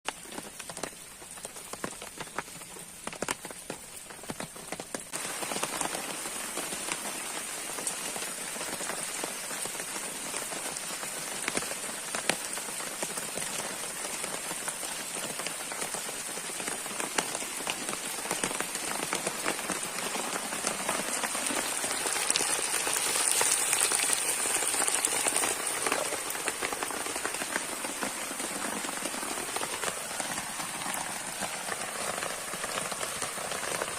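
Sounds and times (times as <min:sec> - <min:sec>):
rain falling on a shelter: 0:00.0 - 0:33.9.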